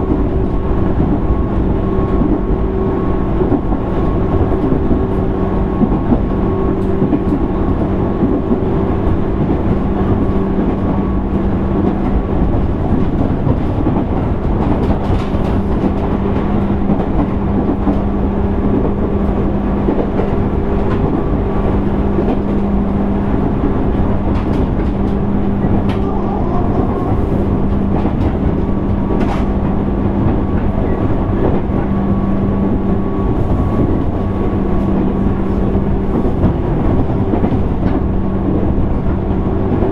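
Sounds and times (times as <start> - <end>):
train motor hum: 0.0 - 39.9
train wheels rumbling on rail: 0.0 - 39.9.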